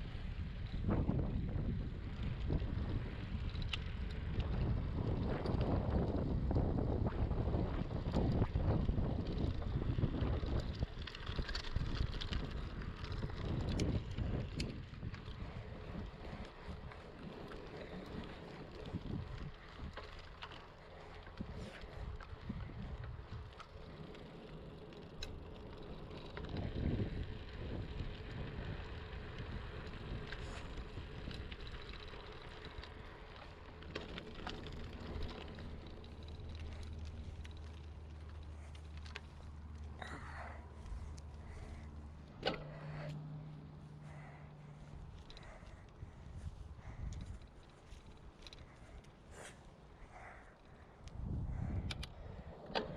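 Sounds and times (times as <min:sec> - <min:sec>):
bicycle tyre noise: 0:00.0 - 0:52.9
wind buffeting microphone: 0:00.0 - 0:52.9
small clicks and rattles: 0:01.1 - 0:52.9.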